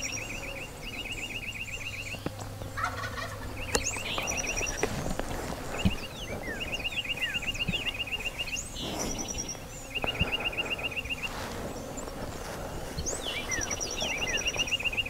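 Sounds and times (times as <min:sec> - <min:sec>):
birds whistling: 0:00.0 - 0:15.0
songbird rapid trill: 0:00.0 - 0:15.0.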